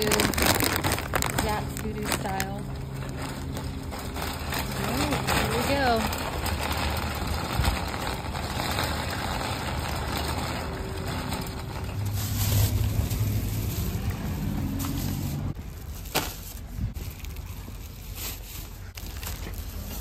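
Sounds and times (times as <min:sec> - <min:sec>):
shopping cart rattling over asphalt: 0:00.0 - 0:20.0
vehicle engine running low: 0:00.0 - 0:20.0.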